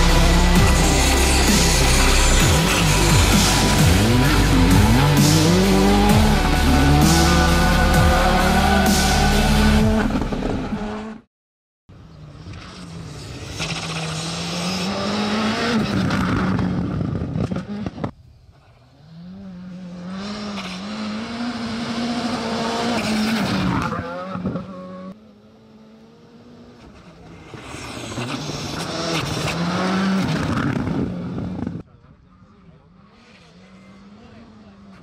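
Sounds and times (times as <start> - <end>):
rally car engine revving: 0.0 - 11.3, 12.1 - 35.0.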